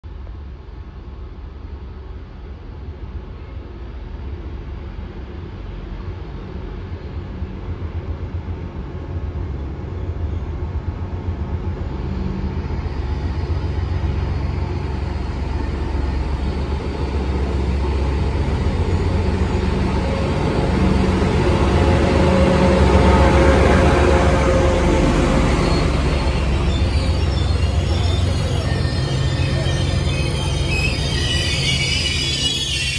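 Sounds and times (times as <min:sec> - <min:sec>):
diesel locomotive engine rumble: 0:00.1 - 0:32.9.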